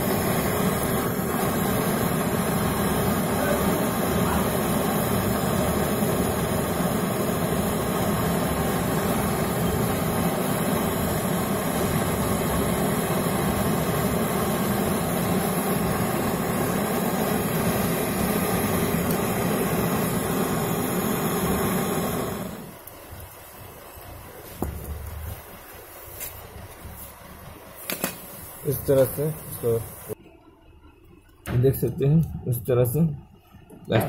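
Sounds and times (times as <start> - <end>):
torch flame hissing: 0.0 - 30.2.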